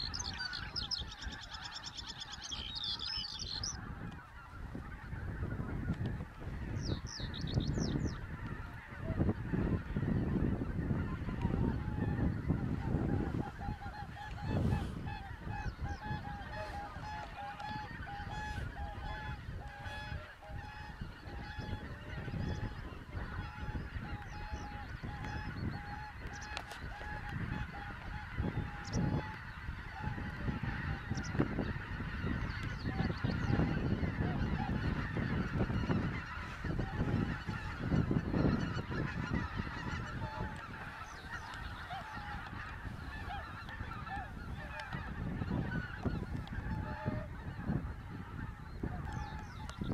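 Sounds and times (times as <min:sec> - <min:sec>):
geese honking: 0:00.0 - 0:49.9.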